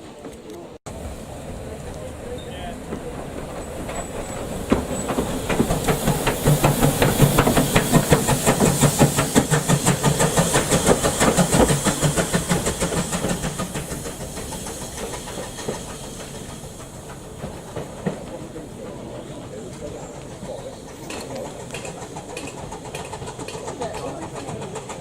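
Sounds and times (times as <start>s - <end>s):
hiss of steam: 0.9s - 25.0s
steam locomotive exhaust beats: 0.9s - 25.0s.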